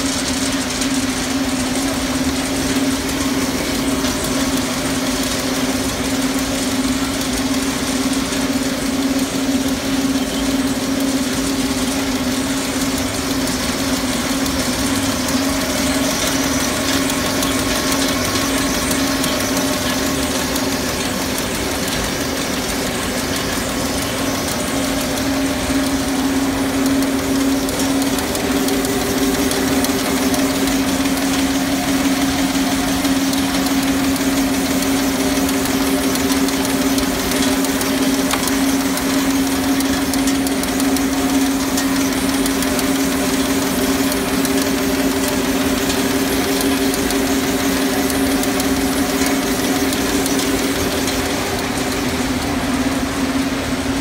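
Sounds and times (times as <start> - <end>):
wrapping machine humming: 0.0 - 54.0.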